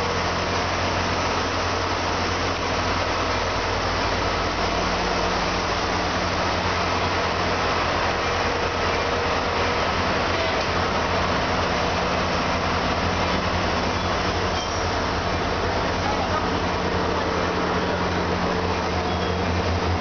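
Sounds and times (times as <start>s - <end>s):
locomotive engine drone: 0.0s - 20.0s
train rolling past: 0.0s - 20.0s.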